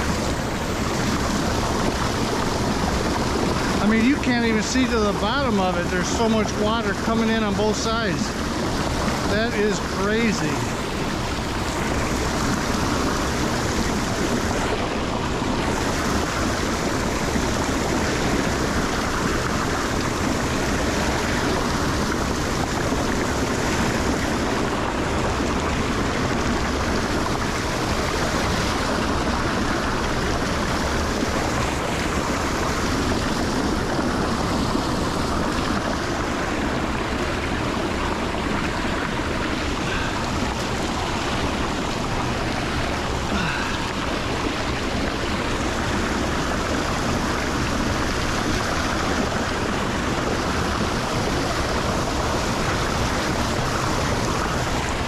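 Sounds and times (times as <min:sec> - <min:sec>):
water rushing into drain: 0:00.0 - 0:55.0.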